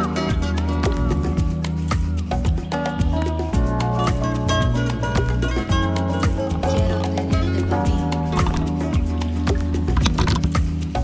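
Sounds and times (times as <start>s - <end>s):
upbeat latin-style music: 0.0s - 11.0s.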